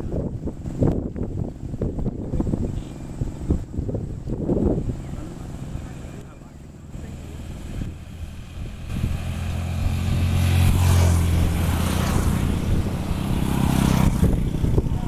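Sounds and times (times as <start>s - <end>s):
passing road traffic rush: 0.0s - 15.0s
vehicle engine humming: 0.0s - 15.0s.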